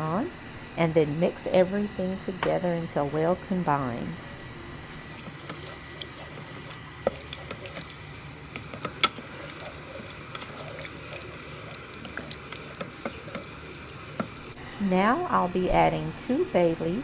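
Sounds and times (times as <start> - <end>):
spoon stirring liquid in a pot: 0.0 - 4.2, 4.8 - 14.7
steady low hum: 0.0 - 17.0.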